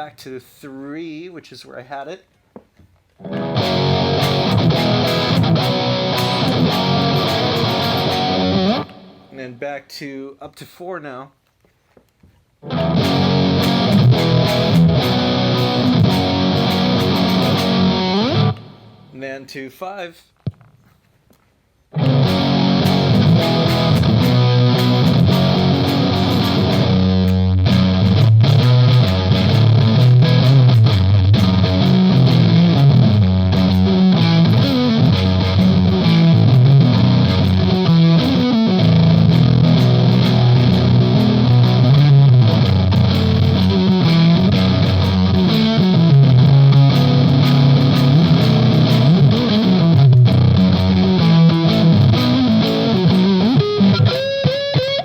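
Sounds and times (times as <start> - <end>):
distorted electric guitar riff: 3.2 - 9.4, 12.6 - 19.2, 21.9 - 55.0.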